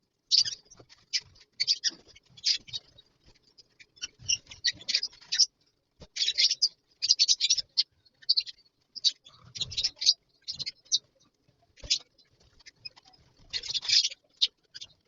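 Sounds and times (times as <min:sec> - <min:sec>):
lovebirds chirping: 0:00.2 - 0:15.0.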